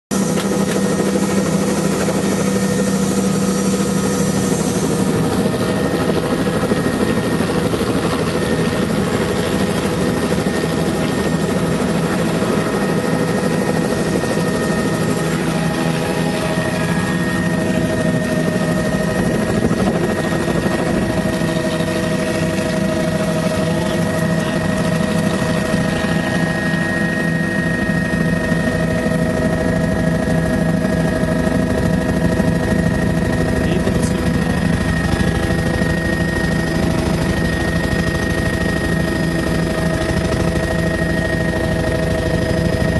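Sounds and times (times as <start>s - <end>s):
helicopter turbine whine: 0.1s - 42.9s
low helicopter rotor beat: 0.1s - 42.9s.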